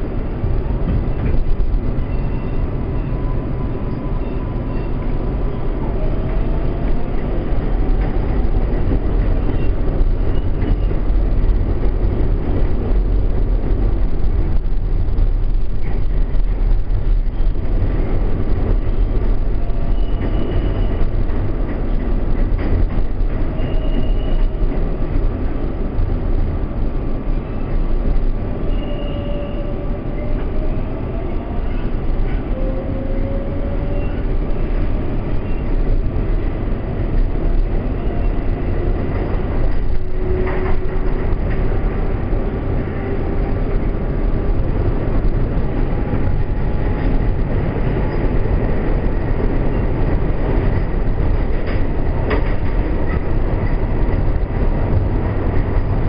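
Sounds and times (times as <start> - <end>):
subway wheels rumbling on rail: 0.0 - 56.0.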